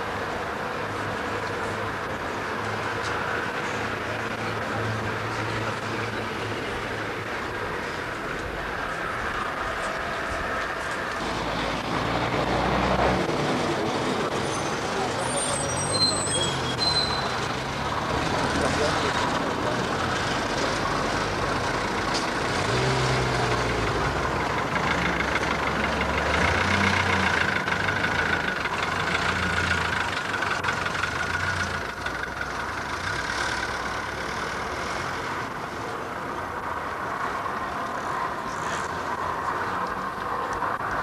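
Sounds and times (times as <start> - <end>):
heavy vehicle engine running: 0.0 - 41.0
street noise: 0.0 - 41.0.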